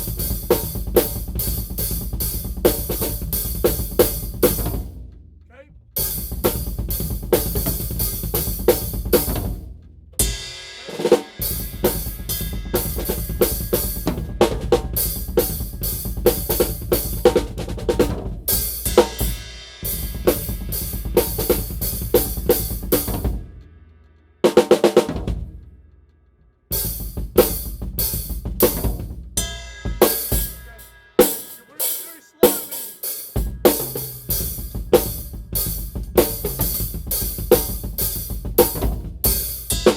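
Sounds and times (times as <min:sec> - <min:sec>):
drum kit playing: 0:00.0 - 0:05.0, 0:06.0 - 0:23.8, 0:24.5 - 0:25.7, 0:26.7 - 0:39.9
drum roll: 0:00.0 - 0:05.1, 0:05.9 - 0:23.8, 0:24.5 - 0:25.7, 0:26.7 - 0:39.9.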